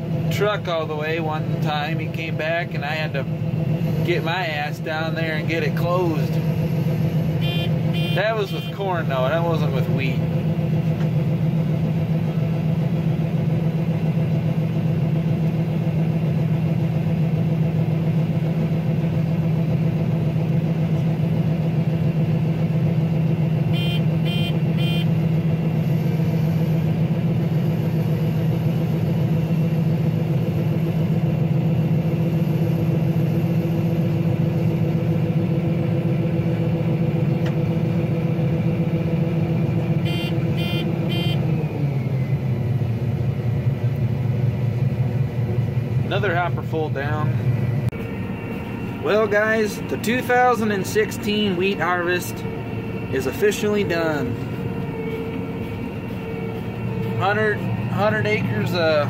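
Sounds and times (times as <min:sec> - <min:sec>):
combine harvester hum: 0:00.0 - 0:59.0.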